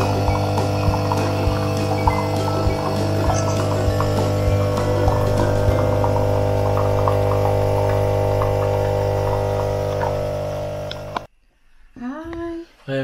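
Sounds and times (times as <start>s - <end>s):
droning chord with high notes: 0.0s - 10.9s.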